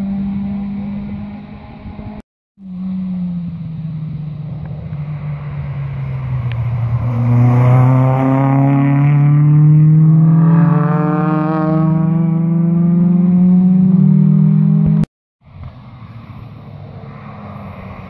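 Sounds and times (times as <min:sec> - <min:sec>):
rally car engine accelerating: 0:00.0 - 0:15.1.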